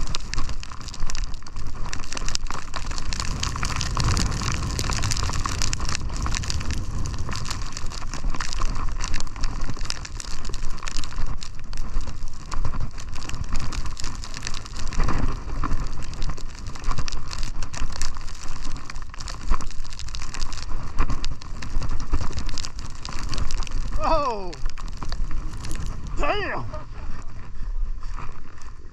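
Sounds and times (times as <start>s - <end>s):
snowboard scraping over snow: 0.0s - 28.9s
wind rumbling on microphone: 0.0s - 28.9s.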